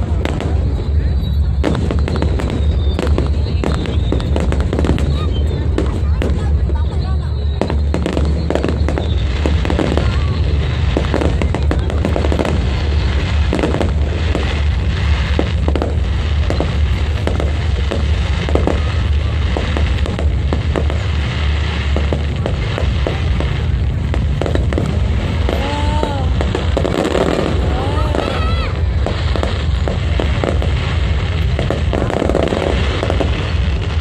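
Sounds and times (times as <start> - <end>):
deep rumble: 0.0 - 34.0
firework bangs and crackles: 0.0 - 34.0.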